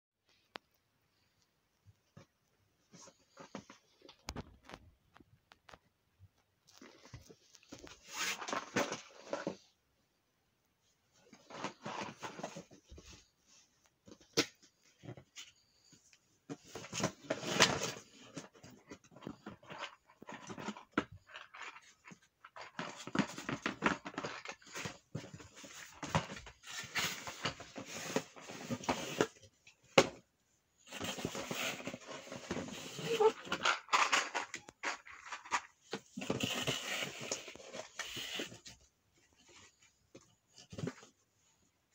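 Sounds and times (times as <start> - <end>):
rustling and scraping of toys: 0.2 - 41.9.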